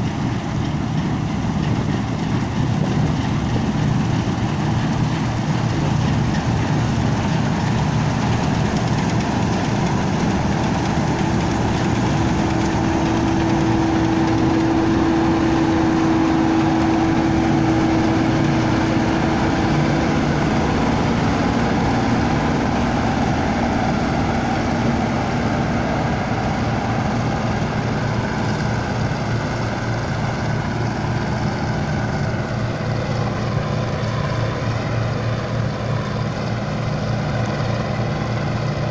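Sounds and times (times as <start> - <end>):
combine harvester running: 0.0 - 38.9
steady whine: 0.0 - 38.9.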